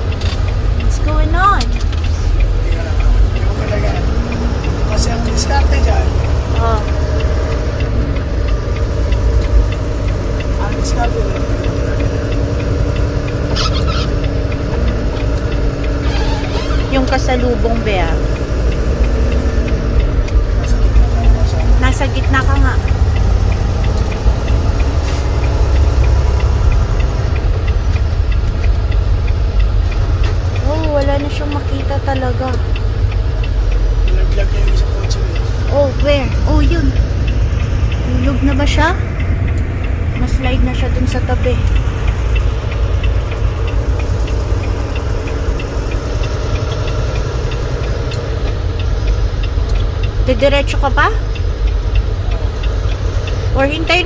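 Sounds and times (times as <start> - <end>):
light ticks: 0.0 - 54.0
truck engine and road rumble: 0.0 - 54.0.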